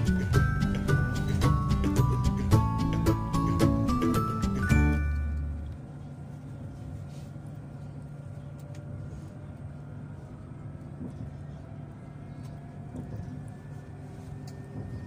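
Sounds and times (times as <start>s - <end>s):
electric tram humming: 0.0s - 15.0s
traction drive whine: 0.0s - 15.0s.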